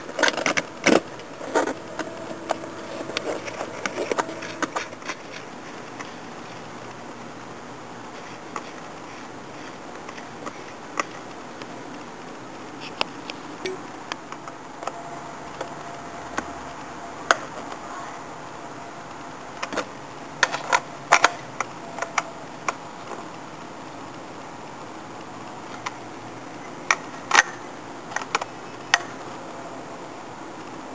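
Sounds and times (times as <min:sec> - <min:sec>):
steady hiss: 0:00.0 - 0:30.9.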